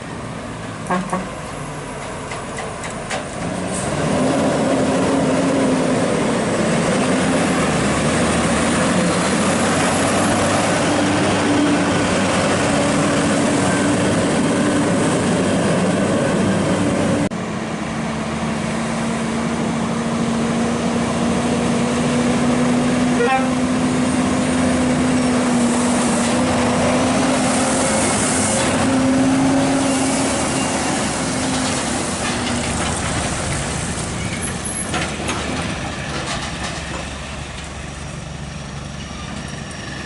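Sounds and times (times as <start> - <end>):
heavy truck engine drone: 0.0 - 40.0
road noise: 0.0 - 40.0.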